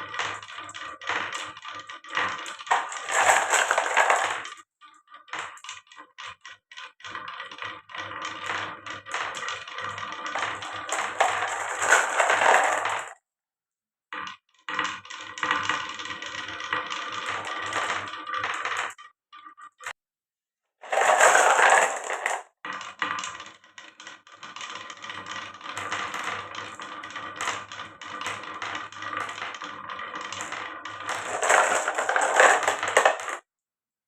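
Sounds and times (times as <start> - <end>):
marbles clattering down a track: 0.0 - 13.2, 14.2 - 19.6, 20.8 - 33.4.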